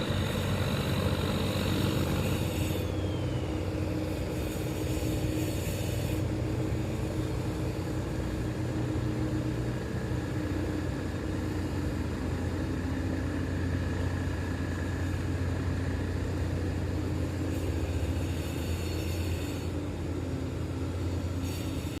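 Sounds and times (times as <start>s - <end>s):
boat engine low drone: 0.0s - 22.0s.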